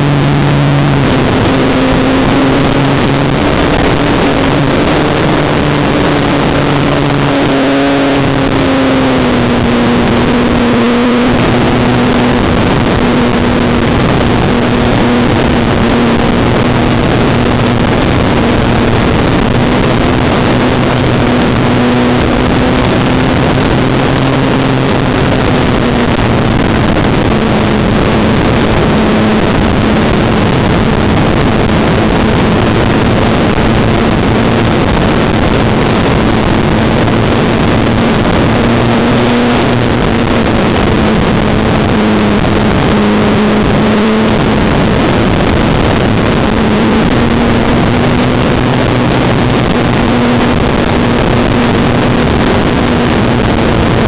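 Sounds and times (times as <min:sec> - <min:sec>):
faint propeller drone: 0:00.0 - 0:54.0
rush of airflow: 0:00.0 - 0:54.0.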